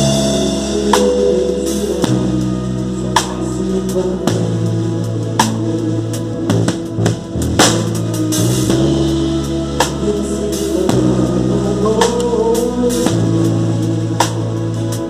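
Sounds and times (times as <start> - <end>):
drum kit beating: 0.0 - 15.0
gospel band playing: 0.0 - 15.0.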